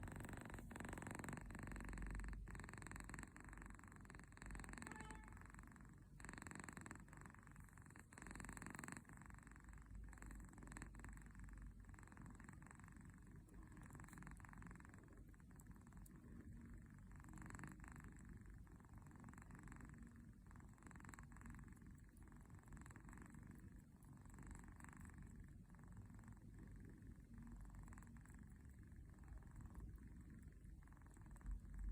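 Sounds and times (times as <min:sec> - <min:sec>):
kitten purring: 0:00.0 - 0:31.9.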